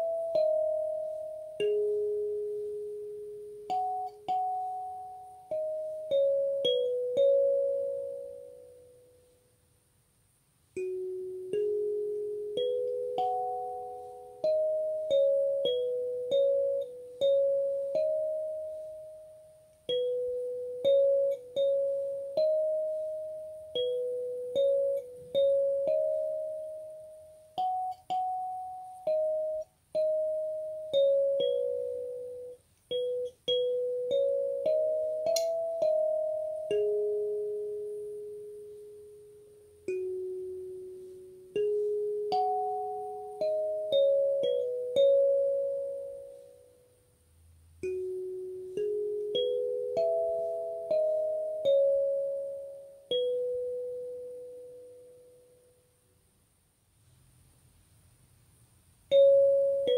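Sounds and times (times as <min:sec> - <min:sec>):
kalimba melody: 0:00.0 - 0:09.2, 0:10.8 - 0:47.0, 0:47.8 - 0:55.8, 0:59.1 - 0:59.9.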